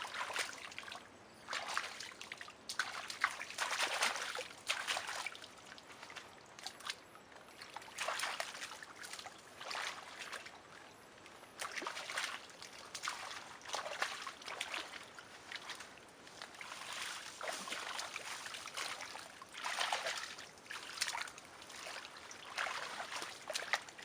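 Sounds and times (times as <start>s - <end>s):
hands splashing in muddy water: 0.0s - 7.0s, 7.6s - 10.6s, 11.6s - 24.0s.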